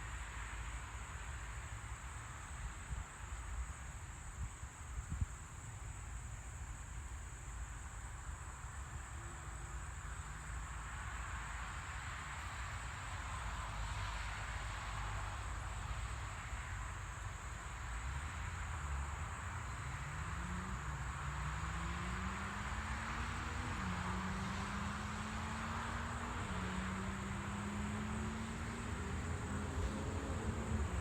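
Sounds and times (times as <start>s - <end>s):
night insects chorus: 0.0s - 31.0s.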